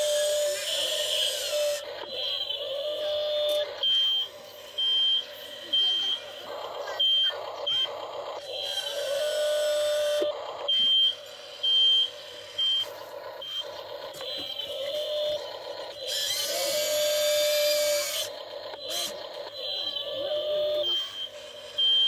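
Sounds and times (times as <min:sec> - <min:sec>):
toy gear motors whining: 0:00.0 - 0:22.0.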